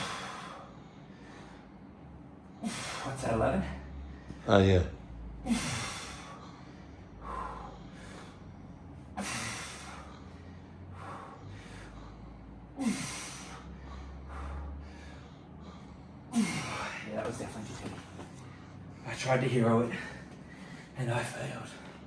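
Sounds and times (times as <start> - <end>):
quiet inhalations: 0.0 - 22.0.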